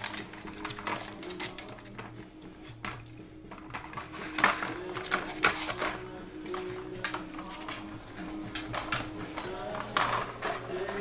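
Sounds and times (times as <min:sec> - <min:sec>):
plastic toy clattering on wood floor: 0:00.0 - 0:02.2, 0:02.8 - 0:11.0.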